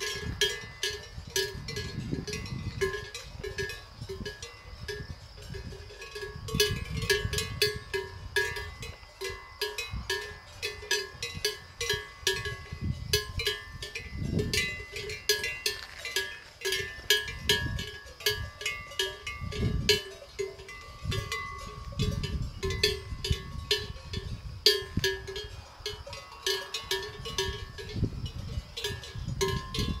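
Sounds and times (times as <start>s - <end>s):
cowbells clanking: 0.0s - 30.0s
wind rumbling on microphone: 0.0s - 30.0s.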